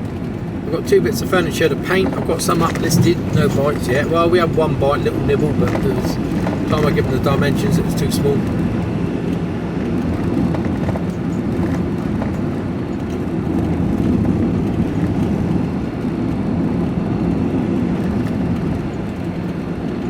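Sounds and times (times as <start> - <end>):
road noise: 0.0 - 20.0
van engine rumble: 0.0 - 20.0.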